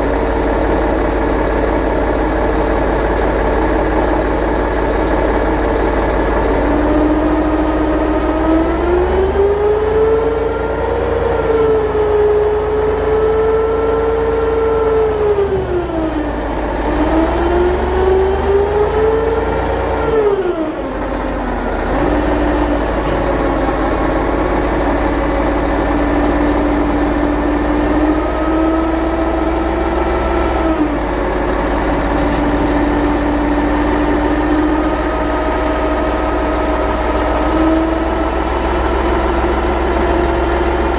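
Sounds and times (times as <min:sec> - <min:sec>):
vehicle engine revving: 0:05.4 - 0:40.9.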